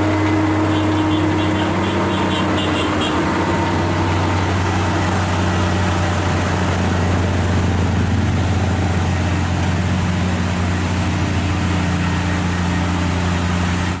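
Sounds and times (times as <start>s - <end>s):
road noise: 0.0s - 14.0s
truck diesel engine running: 0.0s - 14.0s.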